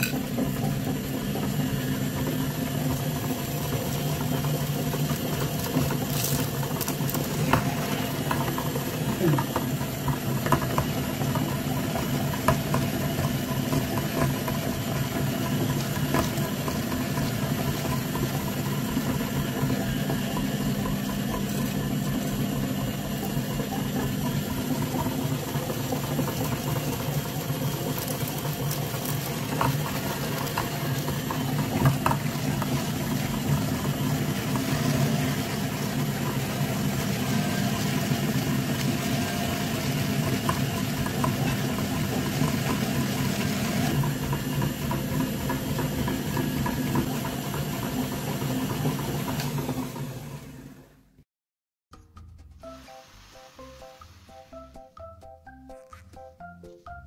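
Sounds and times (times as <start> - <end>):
meat grinder humming: 0.0 - 51.1.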